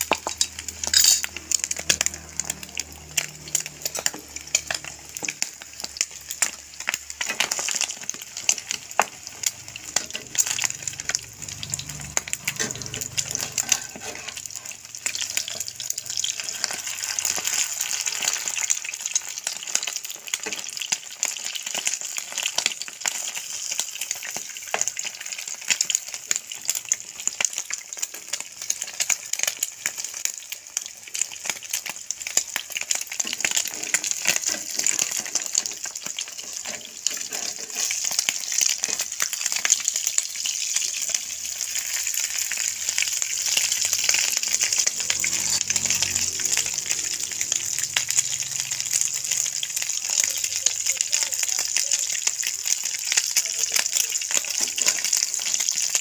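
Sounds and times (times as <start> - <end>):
hot oil sizzling in a frying pan: 0.0 - 56.0.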